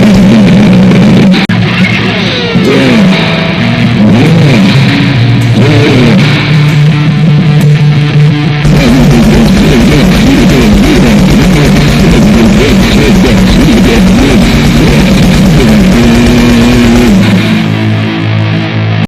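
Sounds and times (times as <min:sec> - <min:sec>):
distorted electric guitar: 0:00.0 - 0:19.0
pulsing wall of noise: 0:00.0 - 0:19.0.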